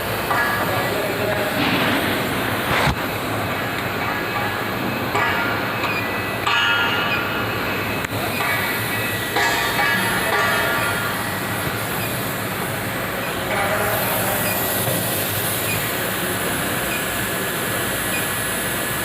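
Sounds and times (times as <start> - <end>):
gas torch roaring: 0.0 - 19.0.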